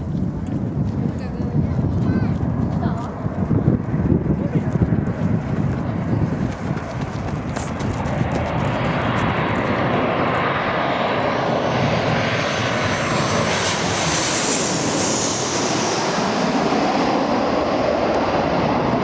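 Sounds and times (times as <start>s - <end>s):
airliner passing overhead: 0.0s - 19.0s.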